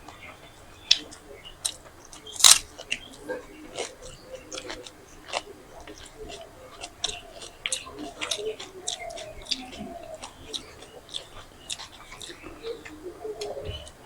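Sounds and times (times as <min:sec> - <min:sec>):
people chewing crunchy food: 0:00.0 - 0:14.0.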